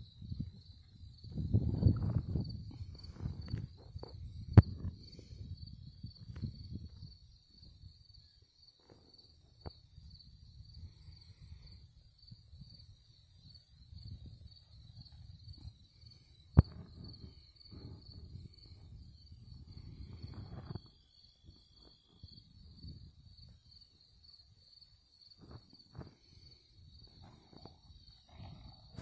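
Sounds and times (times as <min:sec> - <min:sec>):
crickets chirring: 0:00.0 - 0:29.0
low rumble on the microphone: 0:00.0 - 0:29.0.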